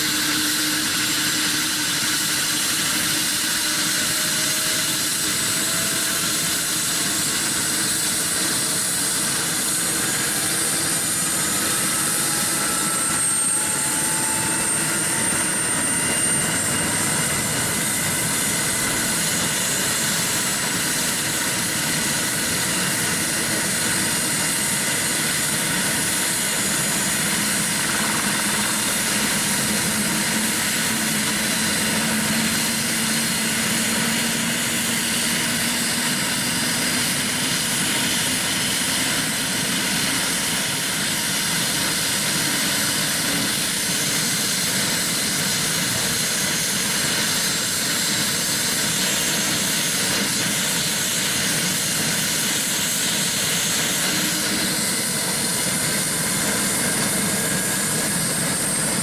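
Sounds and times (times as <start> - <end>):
helicopter rotor noise: 0.0 - 59.0
helicopter turbine whine: 0.0 - 59.0.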